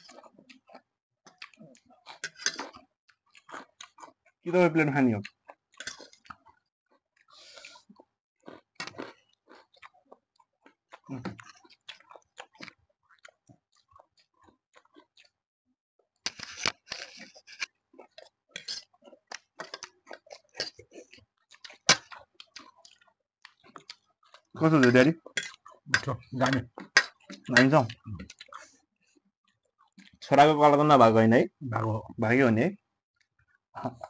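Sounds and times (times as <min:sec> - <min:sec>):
chewing and crunching food: 0:00.0 - 0:30.9, 0:32.8 - 0:34.0.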